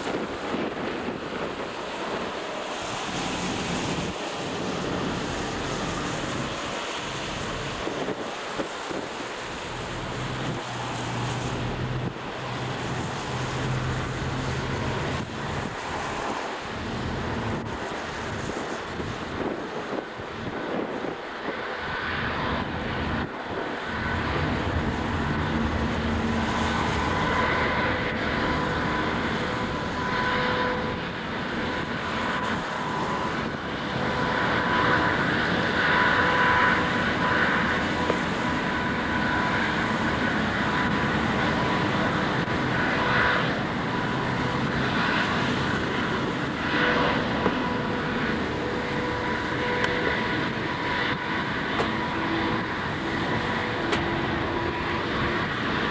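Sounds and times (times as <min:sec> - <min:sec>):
constant high whine: 0:00.0 - 0:55.9
ferry engine drone: 0:00.0 - 0:55.9.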